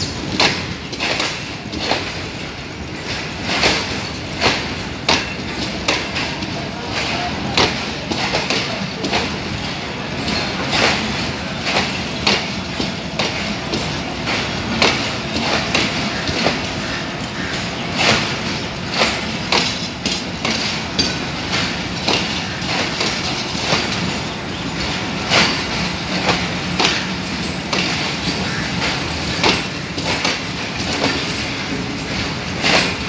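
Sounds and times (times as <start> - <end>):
train rumble: 0.0 - 33.0
wheels clacking over rail joints: 0.0 - 33.0.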